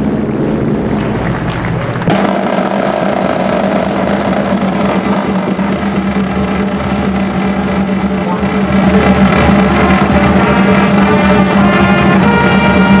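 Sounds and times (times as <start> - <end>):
marching band brass chord: 0.0 - 13.0.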